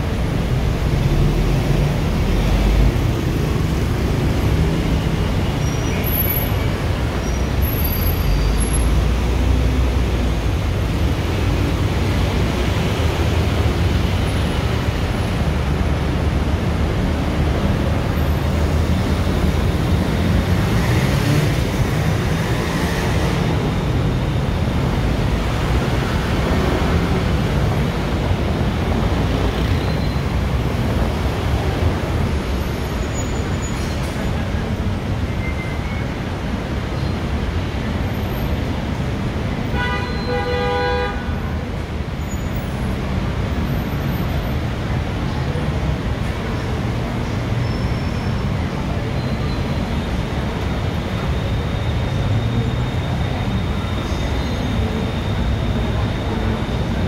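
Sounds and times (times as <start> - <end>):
heavy road traffic rumble: 0.0 - 57.0.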